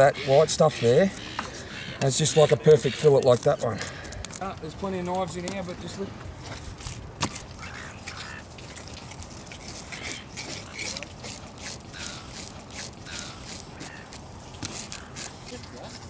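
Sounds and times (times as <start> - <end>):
knife cutting and scraping fish: 0.1 - 4.4, 6.5 - 16.0.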